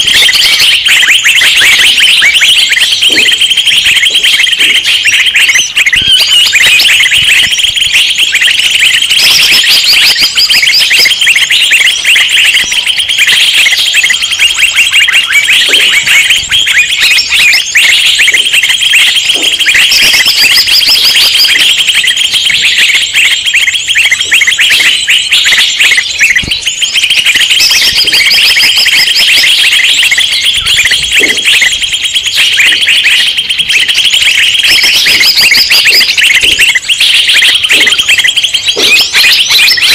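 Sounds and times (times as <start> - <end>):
many small birds chirping: 0.0 - 39.9
whistled bird phrases: 0.0 - 39.9.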